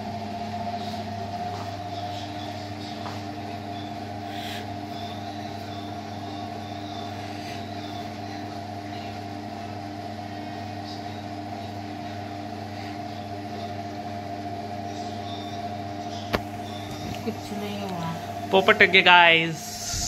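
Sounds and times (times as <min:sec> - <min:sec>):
machine hum with held tones: 0:00.0 - 0:20.0.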